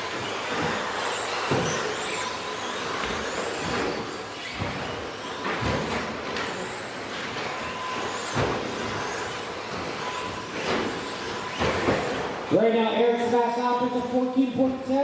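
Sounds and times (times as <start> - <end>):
rc truck motor whine: 0.0 - 12.5.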